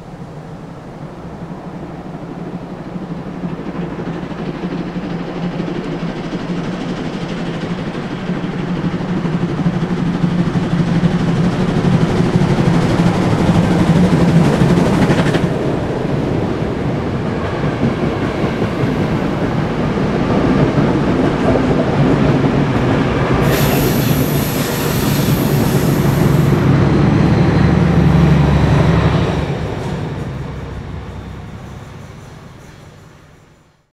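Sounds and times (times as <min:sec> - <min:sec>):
train wagons rumbling and clattering: 0:00.2 - 0:33.6.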